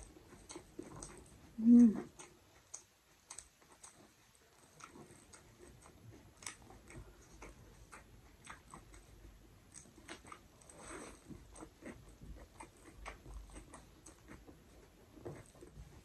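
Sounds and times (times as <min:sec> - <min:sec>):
eating by hand squishes: 0:00.0 - 0:16.0.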